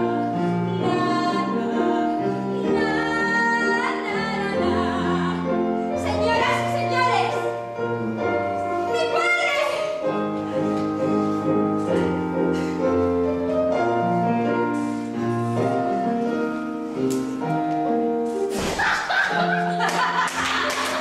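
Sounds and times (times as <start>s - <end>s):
piano playing slow held chords: 0.0s - 18.6s.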